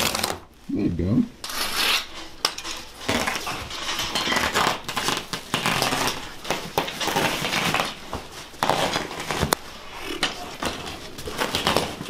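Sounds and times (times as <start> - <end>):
carpet scraping and rustling: 1.4 - 12.0.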